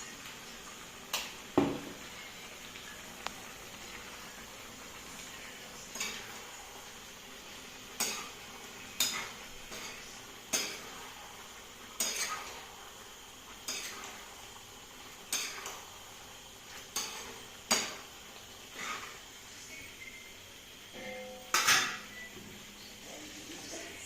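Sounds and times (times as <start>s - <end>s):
faint sizzle of frying meat: 0.0s - 24.0s.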